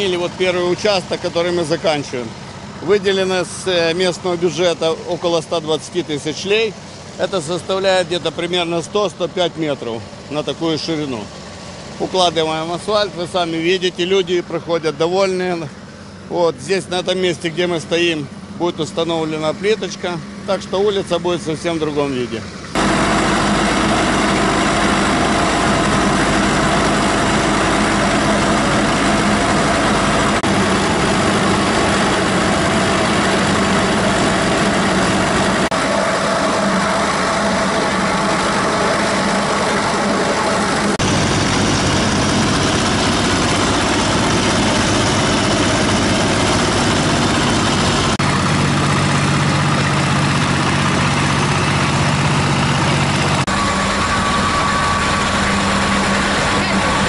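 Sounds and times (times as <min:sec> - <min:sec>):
diesel engines humming: 0:00.0 - 0:57.0.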